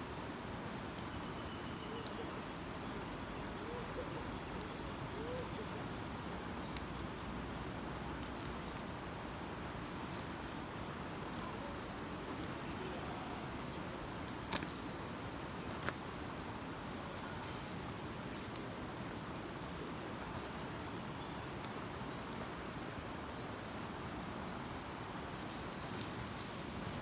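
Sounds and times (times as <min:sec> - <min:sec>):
campfire crackling: 0:00.0 - 0:27.0
fire popping: 0:00.1 - 0:27.0.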